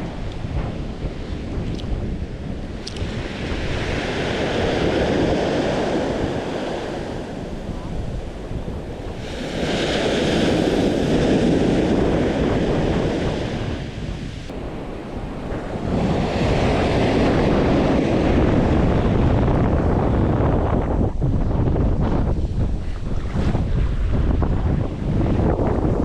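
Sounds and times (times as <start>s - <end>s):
ocean surf washing onto beach: 0.0s - 26.0s
wind buffeting microphone: 0.0s - 26.0s.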